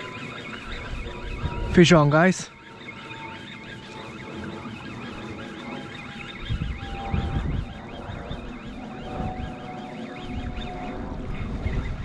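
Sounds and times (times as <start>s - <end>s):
wind buffeting microphone: 0.0s - 2.5s, 4.5s - 12.0s.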